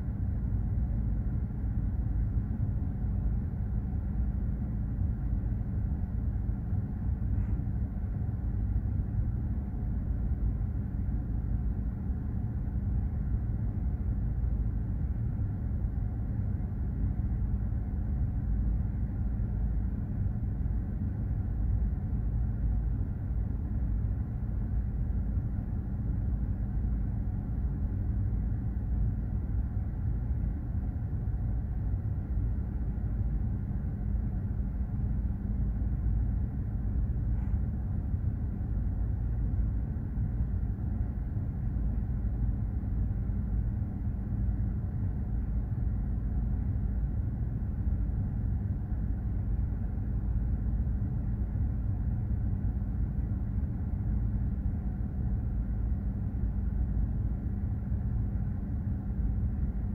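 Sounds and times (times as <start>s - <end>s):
ship engine low rumble and hum: 0.0s - 59.9s.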